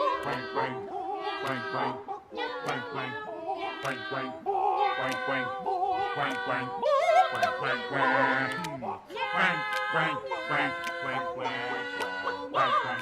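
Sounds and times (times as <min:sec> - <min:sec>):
high singing voice with vibrato: 0:00.0 - 0:13.0.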